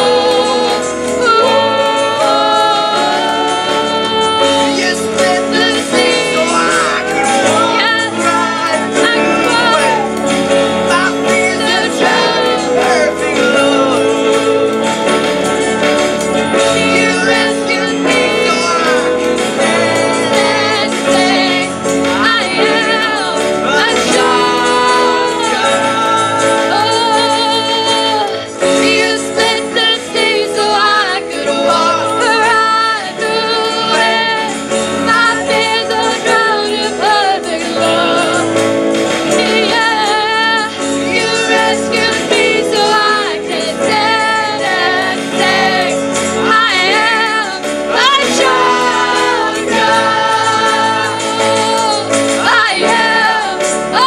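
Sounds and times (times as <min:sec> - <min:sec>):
live band playing: 0:00.0 - 0:54.0
people singing: 0:00.0 - 0:54.0.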